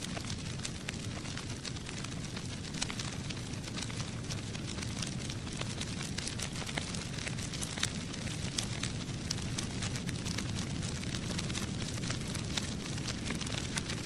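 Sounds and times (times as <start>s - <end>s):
crackling with sharp clicks: 0.0s - 14.0s.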